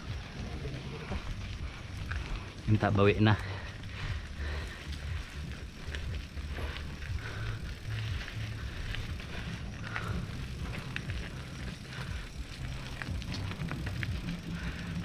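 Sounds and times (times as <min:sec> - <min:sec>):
bike clicks and rattles: 0:00.0 - 0:15.0
tyres rumbling on trail: 0:00.0 - 0:15.0.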